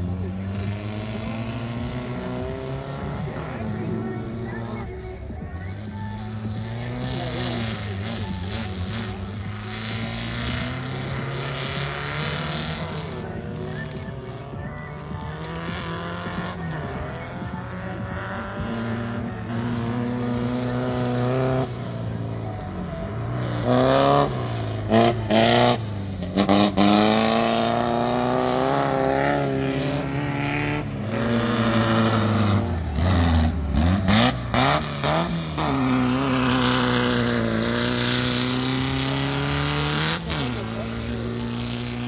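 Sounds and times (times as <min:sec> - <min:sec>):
race car engines revving hard: 0:00.0 - 0:42.0.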